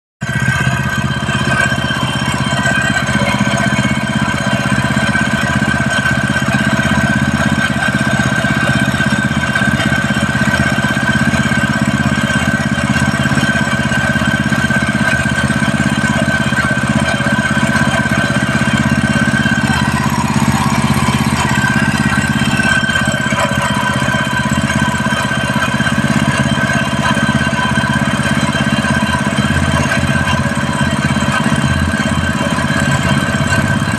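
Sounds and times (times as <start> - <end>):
gasoline engine running: 0.2 - 33.9
steady high tone: 0.2 - 33.9.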